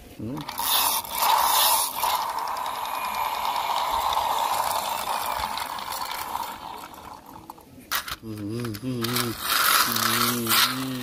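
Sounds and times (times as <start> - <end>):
toy rolling on concrete: 0.0 - 11.0
toy gear motor whirring: 0.3 - 11.0.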